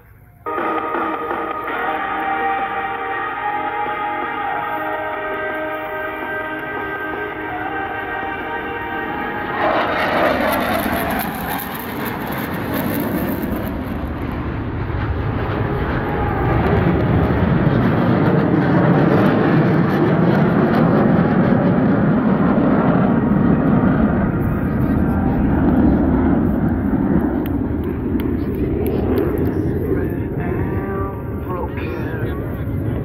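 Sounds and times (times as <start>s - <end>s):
jet roar overhead: 0.0s - 33.0s.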